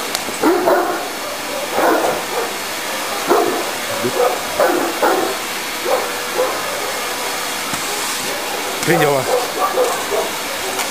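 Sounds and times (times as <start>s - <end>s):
dog barking and yipping: 0.4s - 10.9s
vacuum cleaner running: 1.0s - 10.9s.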